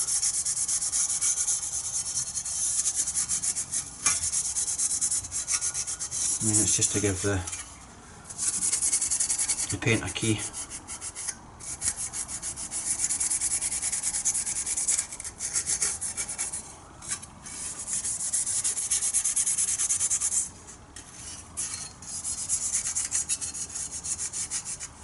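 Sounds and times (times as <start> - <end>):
abrasive pad scrubbing steel panel: 0.0 - 25.0.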